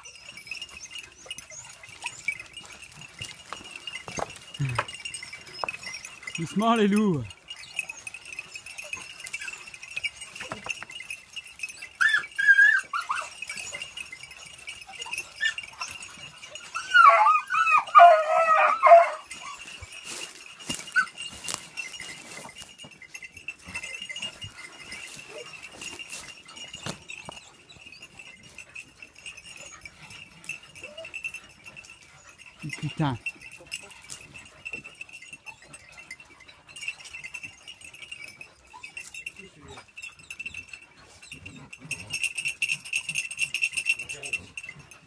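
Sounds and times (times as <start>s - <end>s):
beagles baying: 0.0s - 45.0s.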